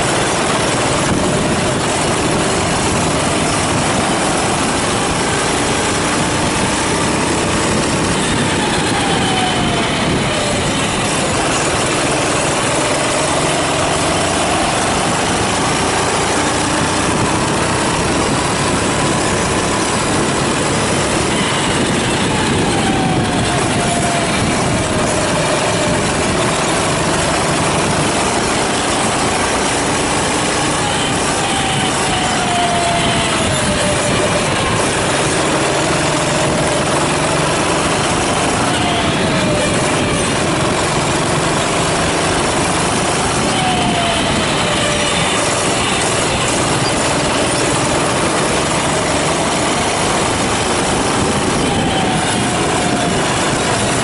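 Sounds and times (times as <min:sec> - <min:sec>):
go-kart engine running hard: 0:00.0 - 0:54.0
steady rushing noise: 0:00.0 - 0:54.0.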